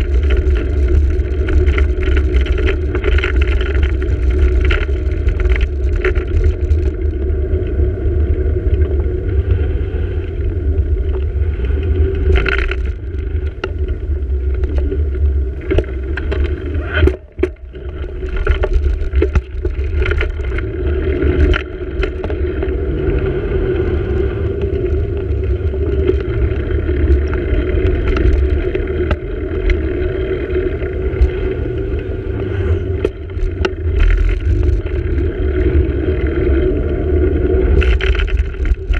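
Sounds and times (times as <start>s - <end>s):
tyre and road noise: 0.0s - 38.9s
wind rumbling on microphone: 0.0s - 38.9s.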